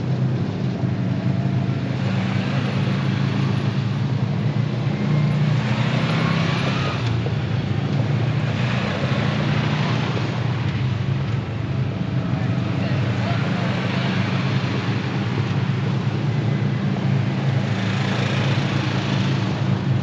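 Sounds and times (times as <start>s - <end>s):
low engine drone: 0.0s - 20.0s
vehicles driving past on dirt: 0.0s - 20.0s.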